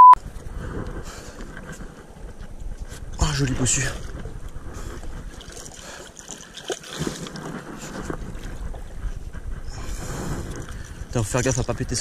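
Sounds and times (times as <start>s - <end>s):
wind on microphone: 0.2s - 5.8s, 6.9s - 12.0s
water lapping against hull: 0.4s - 12.0s.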